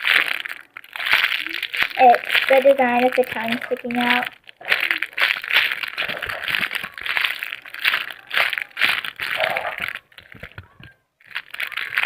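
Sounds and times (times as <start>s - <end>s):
foam toy crinkling and rustling: 0.0s - 12.0s.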